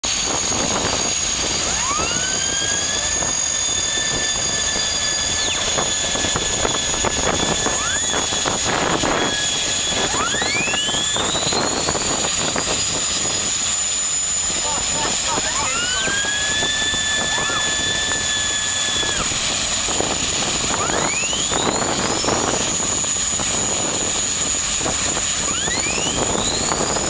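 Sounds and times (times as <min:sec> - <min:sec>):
turbine engine high whine: 0:00.0 - 0:27.0.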